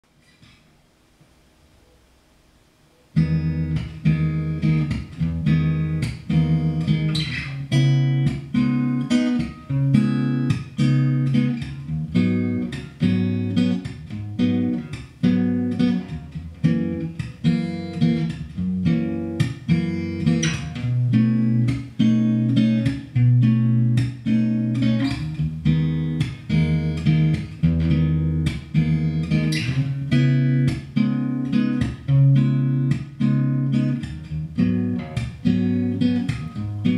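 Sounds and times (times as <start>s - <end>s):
fingerpicked acoustic guitar: 2.9s - 36.9s.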